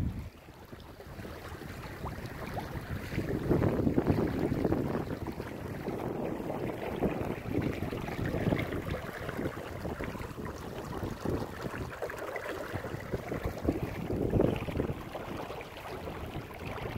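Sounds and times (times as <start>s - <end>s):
water rushing along hull: 0.0s - 16.9s
wind rumble on microphone: 0.0s - 16.9s.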